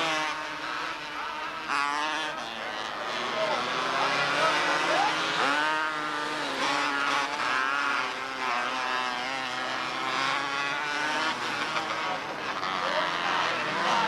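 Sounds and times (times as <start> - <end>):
race car engines revving: 0.0 - 14.0.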